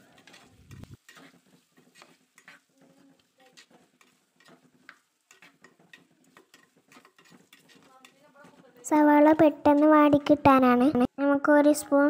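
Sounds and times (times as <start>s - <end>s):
metal spatula scraping pot: 0.0s - 10.3s
onions frying in oil: 0.0s - 10.6s.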